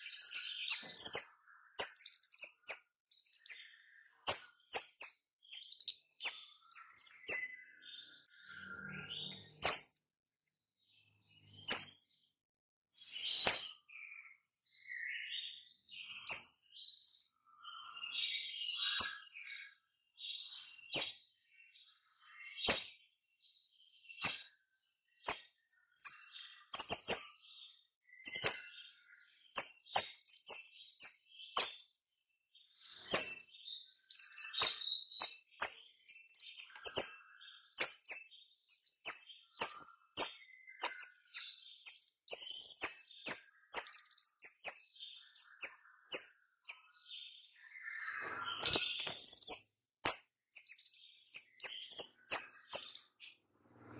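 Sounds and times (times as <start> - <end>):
songbird chirping: 0.0 - 10.1, 10.7 - 12.4, 13.0 - 53.9.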